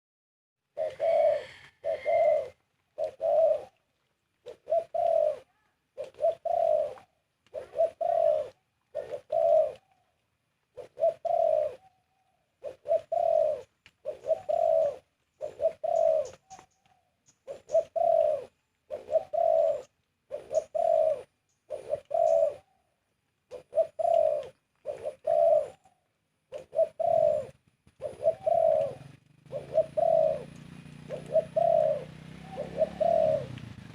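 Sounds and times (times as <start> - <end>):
spotted dove cooing: 0.7 - 33.9.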